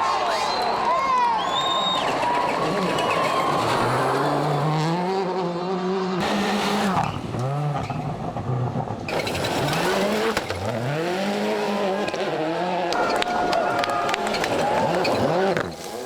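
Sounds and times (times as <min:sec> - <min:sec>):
rally car engine revving: 0:01.4 - 0:16.0.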